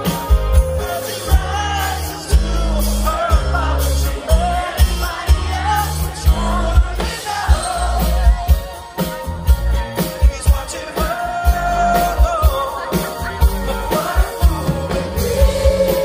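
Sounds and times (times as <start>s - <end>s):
bass line: 0.0s - 16.0s
drum beat: 0.0s - 16.0s
man singing: 0.0s - 16.0s
rock band playing: 0.0s - 16.0s.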